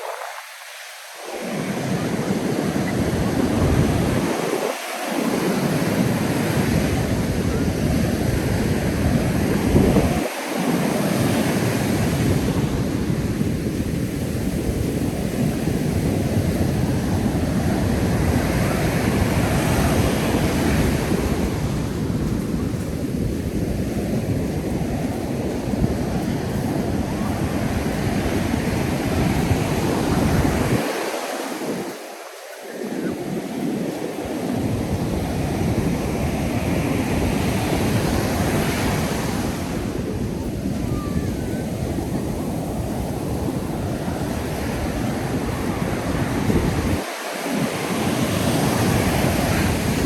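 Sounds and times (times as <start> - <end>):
surf breaking on a beach: 0.0 - 50.0
wind rumble on microphone: 0.0 - 50.0.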